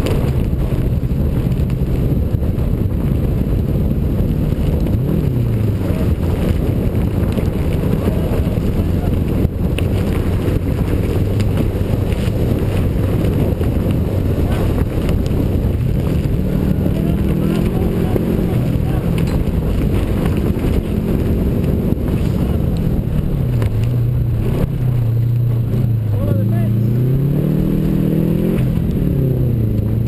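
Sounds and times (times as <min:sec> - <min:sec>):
rally car engine revving: 0:00.0 - 0:30.0
wind buffeting microphone: 0:00.0 - 0:30.0.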